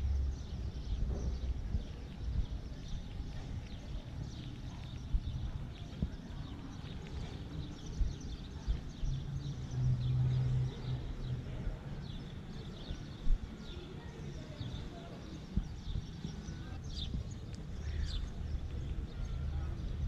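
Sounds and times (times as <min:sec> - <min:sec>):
birds chirping: 0:00.0 - 0:20.0
low outdoor rumble: 0:00.0 - 0:20.0.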